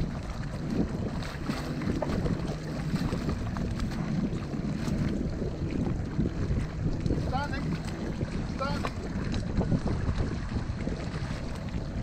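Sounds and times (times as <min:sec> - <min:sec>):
low steady rumble: 0:00.0 - 0:12.0
wind buffeting microphone: 0:00.0 - 0:12.0.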